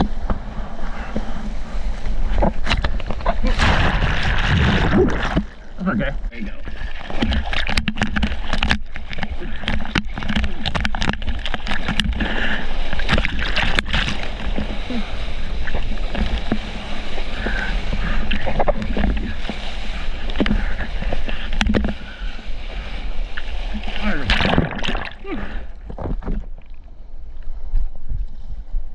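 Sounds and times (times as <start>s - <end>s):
water splashing: 0.0s - 27.6s
low rumble of moving water: 0.0s - 28.9s.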